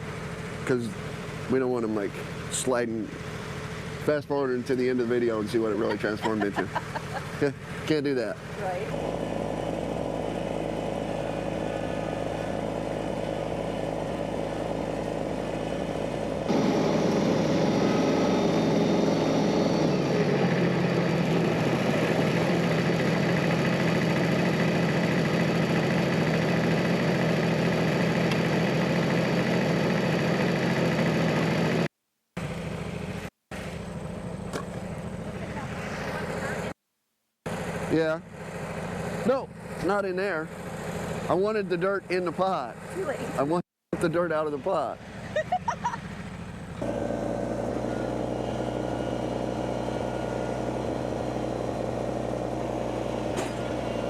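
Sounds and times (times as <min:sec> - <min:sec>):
engine running: 0:00.0 - 0:36.8, 0:37.5 - 0:54.0.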